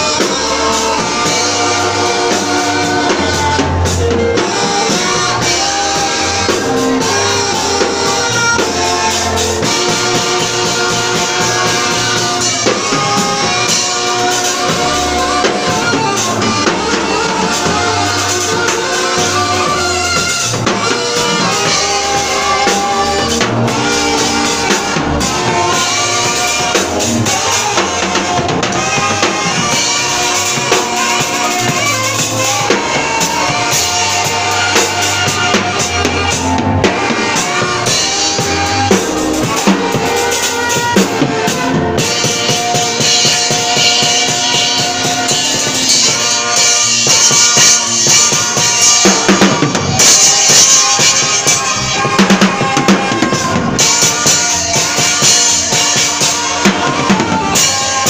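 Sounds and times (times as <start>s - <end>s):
drum kit: 0.0s - 58.0s
saxophones playing melody: 0.0s - 58.0s.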